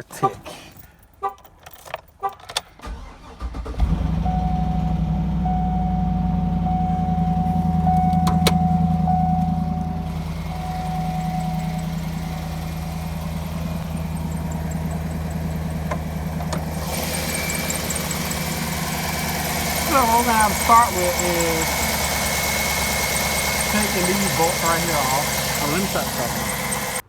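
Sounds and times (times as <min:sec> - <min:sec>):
car engine starting and idling: 0:00.7 - 0:27.0
light engine ticking: 0:04.1 - 0:27.0.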